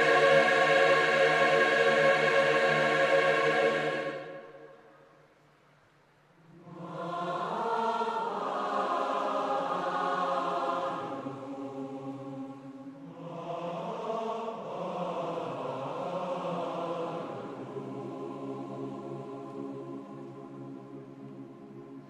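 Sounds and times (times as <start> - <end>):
choir singing held chords: 0.0 - 5.0, 6.4 - 22.0.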